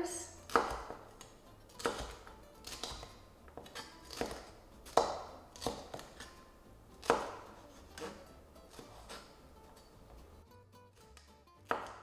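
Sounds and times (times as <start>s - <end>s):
knife chopping on cutting board: 0.0s - 10.4s, 11.0s - 12.0s.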